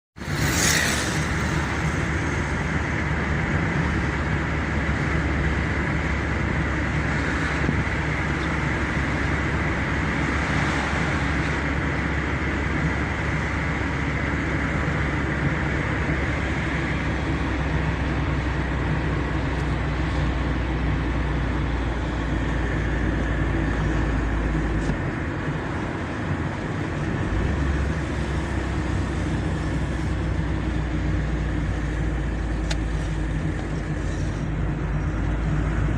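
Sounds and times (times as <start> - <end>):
car engine and tyre noise: 0.2 - 35.9.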